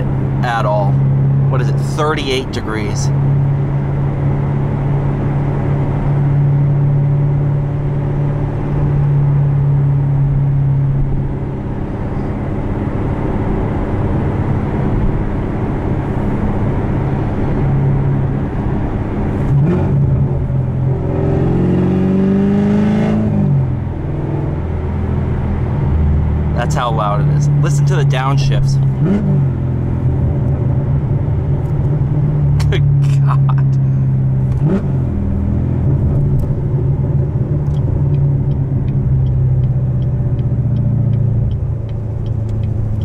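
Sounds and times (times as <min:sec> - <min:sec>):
car engine droning at cruise: 0:00.0 - 0:43.0.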